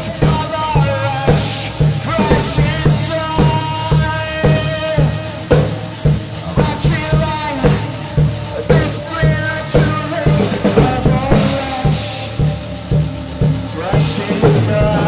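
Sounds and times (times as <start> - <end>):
cymbal crashes: 0.0 - 15.0
drum kit beat: 0.0 - 15.0.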